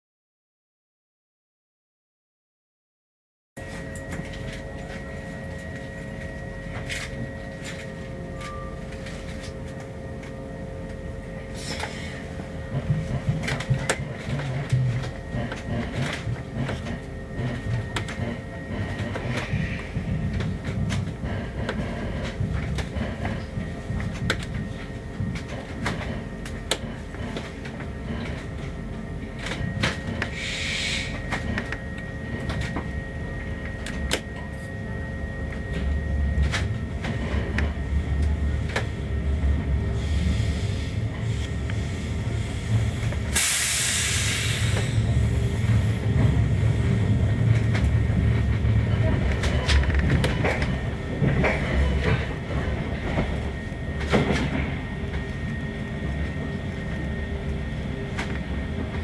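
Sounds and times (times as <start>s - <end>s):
train rumble inside carriage: 3.6s - 59.0s.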